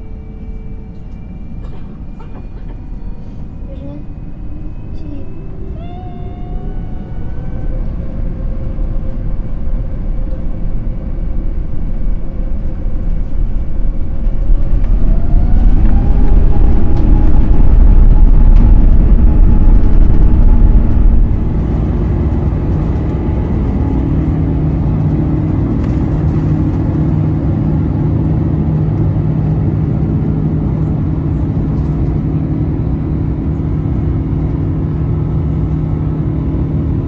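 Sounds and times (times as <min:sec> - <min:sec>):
aircraft engine drone: 0:00.0 - 0:37.0
loud low rumble: 0:00.0 - 0:37.0.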